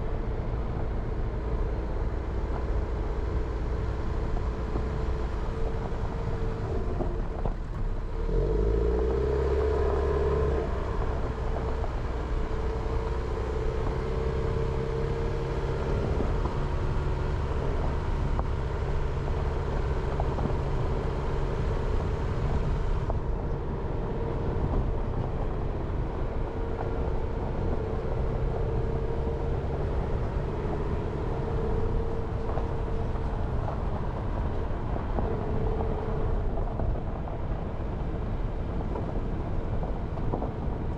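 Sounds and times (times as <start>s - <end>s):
car engine driving: 0.0s - 40.9s.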